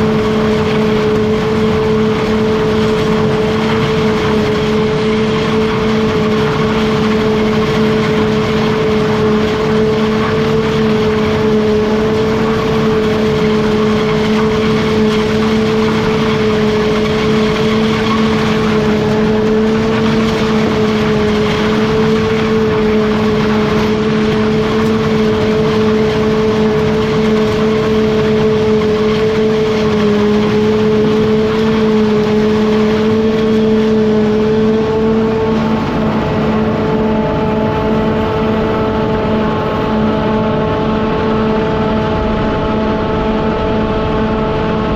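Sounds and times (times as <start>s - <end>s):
heavy machinery engine droning: 0.0s - 44.9s.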